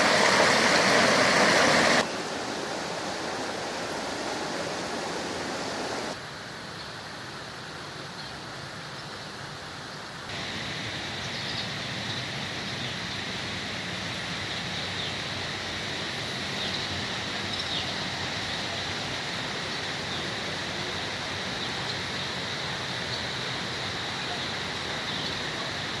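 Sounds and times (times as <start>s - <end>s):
running water rushing: 0.0s - 8.8s, 9.4s - 26.0s.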